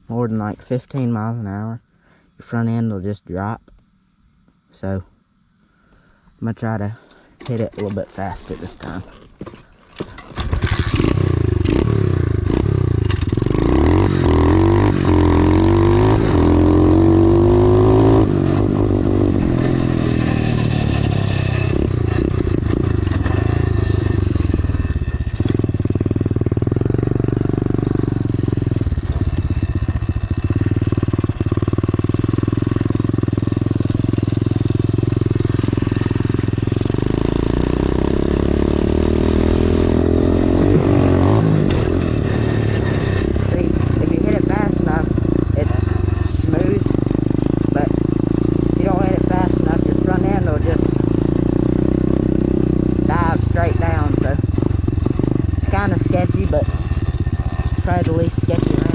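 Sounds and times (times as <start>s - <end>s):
dirt bike engine accelerating: 7.4s - 58.9s.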